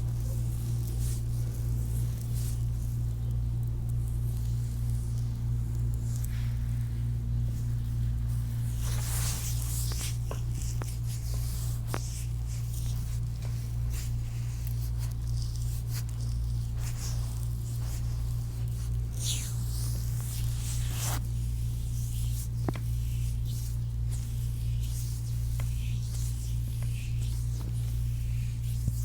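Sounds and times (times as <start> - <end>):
hands rubbing skin: 0.0 - 29.0
low electrical hum: 0.0 - 29.0.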